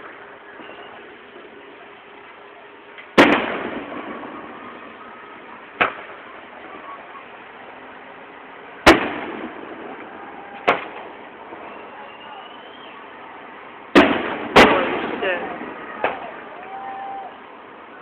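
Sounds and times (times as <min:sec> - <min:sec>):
fireworks bangs: 0:00.0 - 0:02.2, 0:02.9 - 0:17.4
crowd noise: 0:00.0 - 0:18.0.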